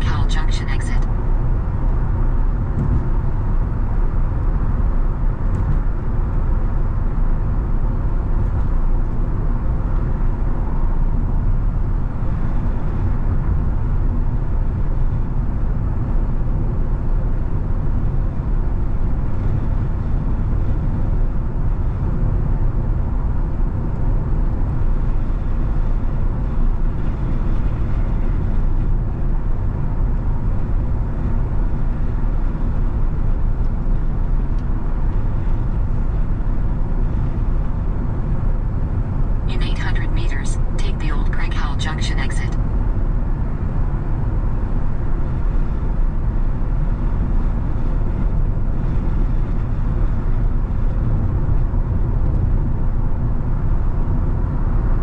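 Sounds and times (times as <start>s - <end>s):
car road noise from inside: 0.0s - 55.0s.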